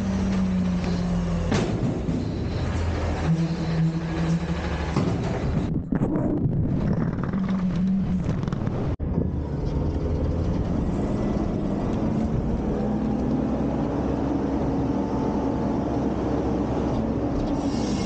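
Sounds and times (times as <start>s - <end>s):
garbage truck diesel engine: 0.0s - 6.0s, 6.6s - 18.0s
hydraulics running: 0.0s - 18.0s.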